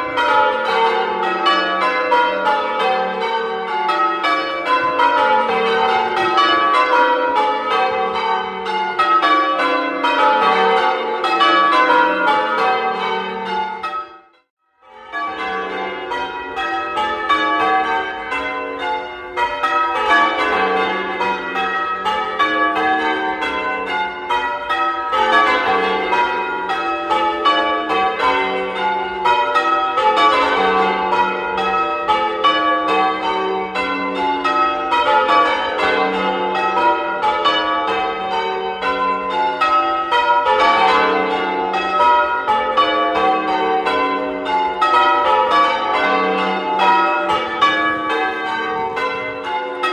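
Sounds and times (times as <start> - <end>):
church bells change ringing: 0.0 - 49.9.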